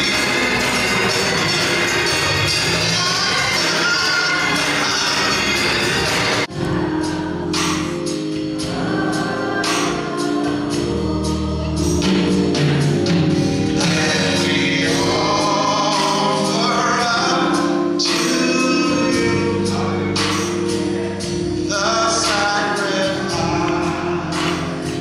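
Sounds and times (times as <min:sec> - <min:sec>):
choir singing gospel: 0:00.0 - 0:25.0
instrumental backing with beat: 0:00.0 - 0:25.0.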